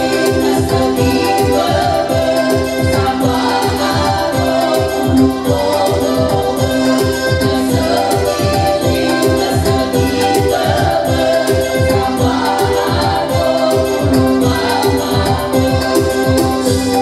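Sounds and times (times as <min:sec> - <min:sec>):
electronic keyboard accompaniment: 0:00.0 - 0:17.0
women singing into microphones: 0:00.0 - 0:17.0.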